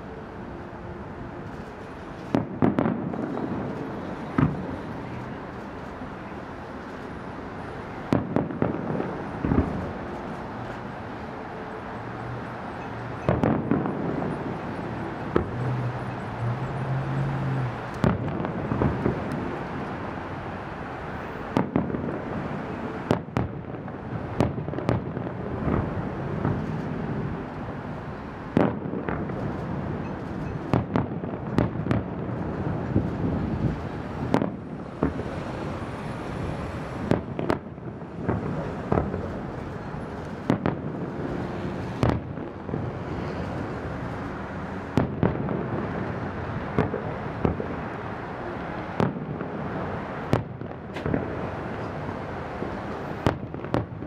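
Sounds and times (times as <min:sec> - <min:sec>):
fireworks rumble and crackle: 0:00.0 - 0:54.0.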